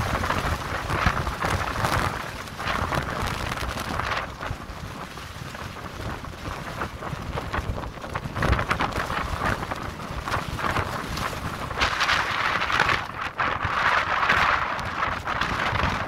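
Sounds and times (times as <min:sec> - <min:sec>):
plastic sheeting rattling: 0:00.0 - 0:16.0
wind gusting over microphone: 0:00.0 - 0:16.0.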